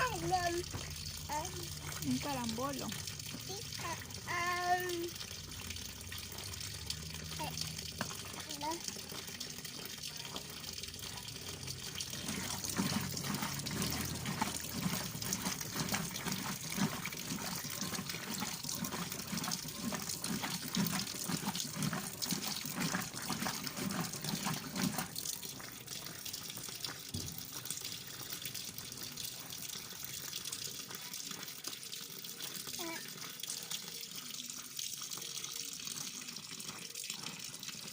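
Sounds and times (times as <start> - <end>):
washing machine churning: 0.0 - 37.9.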